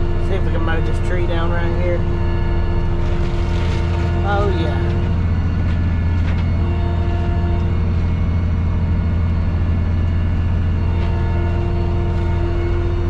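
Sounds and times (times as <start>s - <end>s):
steady whine: 0.0s - 13.0s
tractor engine droning: 0.0s - 13.0s.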